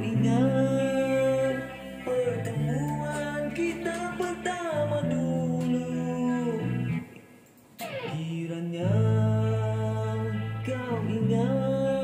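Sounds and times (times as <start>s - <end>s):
backing track with low bass: 0.0s - 7.1s, 7.8s - 12.0s
man singing long held notes: 0.0s - 7.1s, 7.9s - 12.0s.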